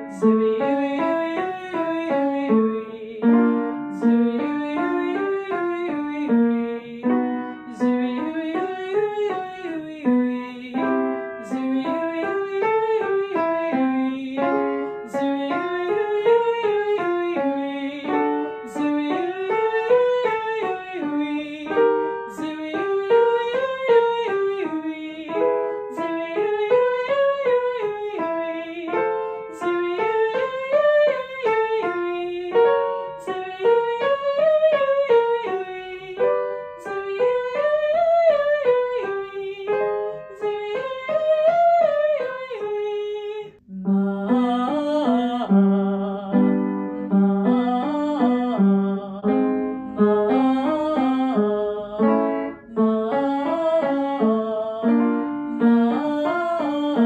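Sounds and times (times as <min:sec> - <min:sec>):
upright piano accompaniment: 0:00.0 - 0:57.0
woman singing vocal scales: 0:00.0 - 0:57.0.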